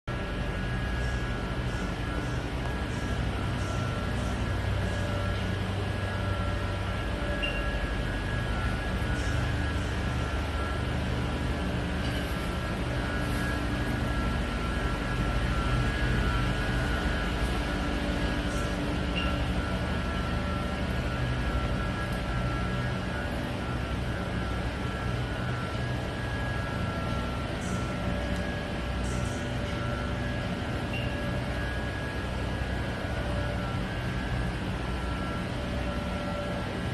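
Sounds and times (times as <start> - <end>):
low hum: 0.0 - 36.9
faint steady tones: 0.1 - 36.9
gas boiler burner and blower: 0.1 - 36.9.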